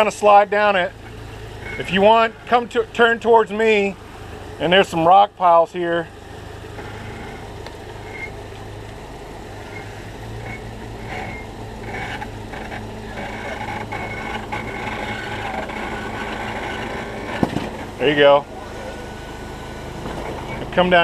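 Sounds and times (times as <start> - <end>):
car engine running at low revs: 0.0 - 21.0.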